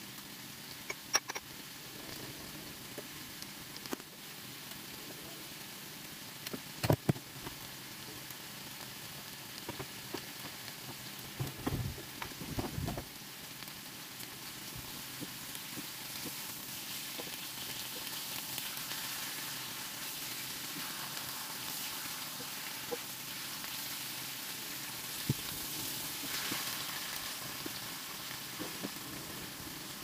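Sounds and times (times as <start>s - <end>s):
chicken sizzling in a frying pan: 0.0s - 30.0s.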